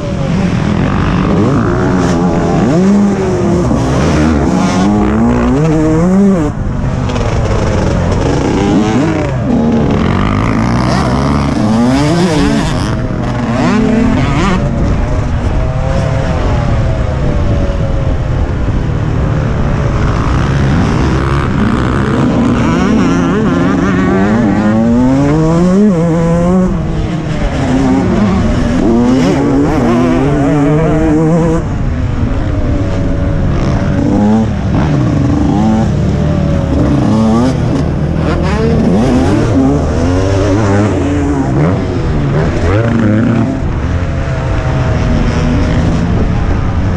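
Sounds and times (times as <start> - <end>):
motocross engine revving: 0.0 - 18.1, 18.9 - 46.9.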